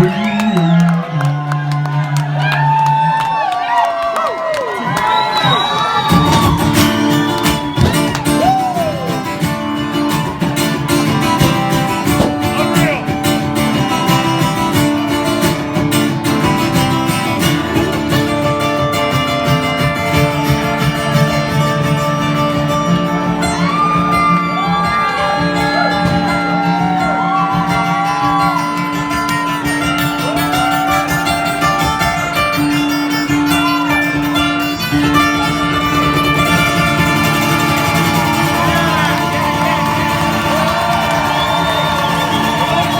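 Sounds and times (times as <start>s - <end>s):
country band playing: 5.4s - 42.9s
lead guitar bending notes: 6.1s - 42.9s.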